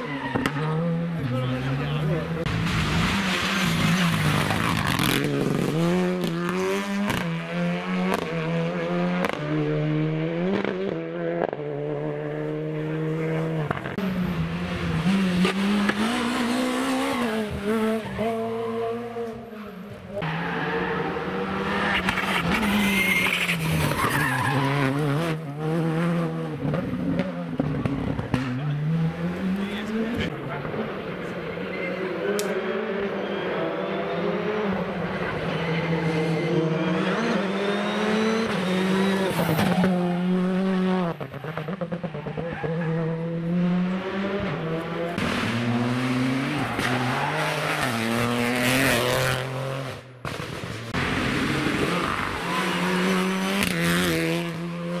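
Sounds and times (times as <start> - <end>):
rally car engine at full throttle: 0.0 - 55.0.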